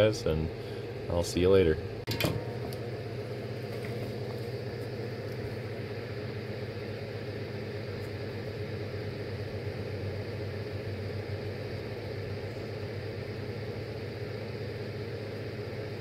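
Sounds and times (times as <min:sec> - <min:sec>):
electric fan humming: 0:00.0 - 0:16.0.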